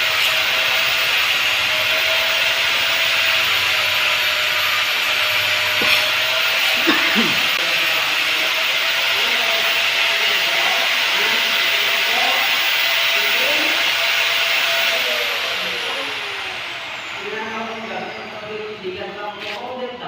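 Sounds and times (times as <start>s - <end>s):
power tool grinding metal: 0.0s - 19.7s
tool whine spinning down: 0.0s - 20.0s.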